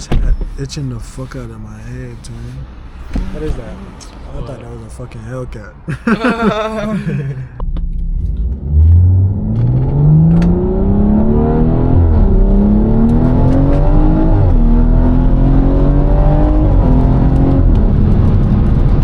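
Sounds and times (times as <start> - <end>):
car engine accelerating hard: 0.2 - 19.0.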